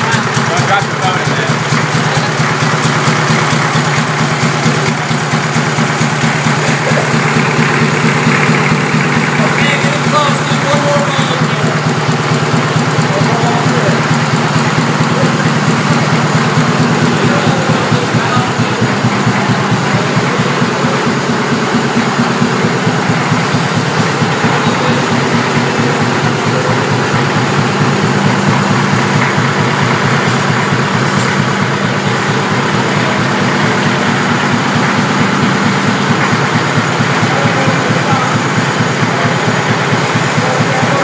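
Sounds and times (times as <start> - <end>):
air compressor pulsing: 0.0 - 41.0.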